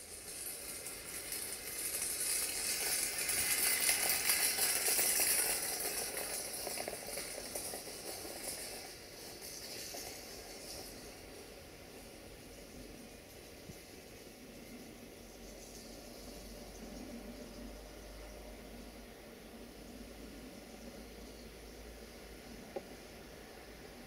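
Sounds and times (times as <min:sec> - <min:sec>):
train wheels rattling on rails: 0:00.0 - 0:24.0.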